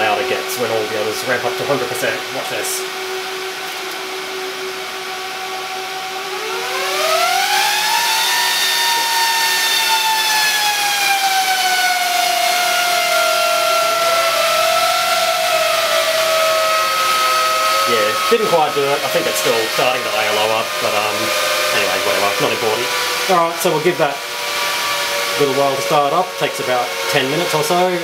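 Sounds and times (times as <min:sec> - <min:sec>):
server cooling fans whining: 0:00.0 - 0:28.0.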